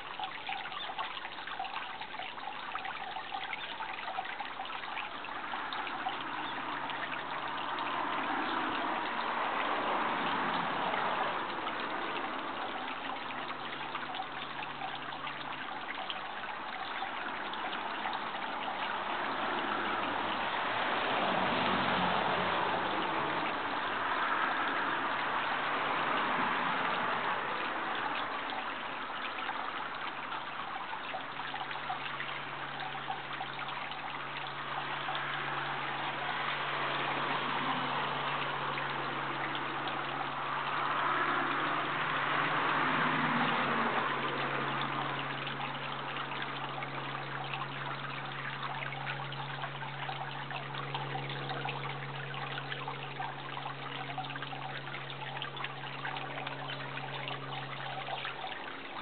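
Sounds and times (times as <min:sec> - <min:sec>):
low steady hum: 0:00.0 - 0:59.0
running water: 0:00.0 - 0:59.0.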